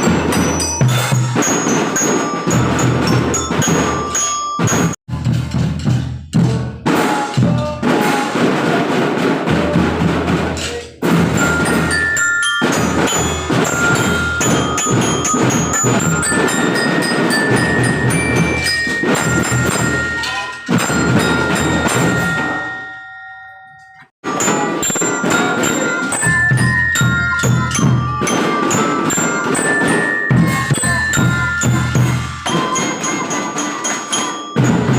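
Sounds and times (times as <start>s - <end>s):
glockenspiel melody: 0.0s - 6.0s, 11.0s - 34.9s
marching drums: 0.0s - 22.9s, 24.2s - 34.9s.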